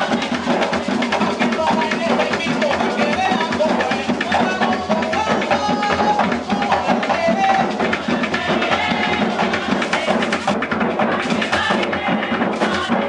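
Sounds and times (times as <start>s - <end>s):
barrel drums beating: 0.0s - 13.0s.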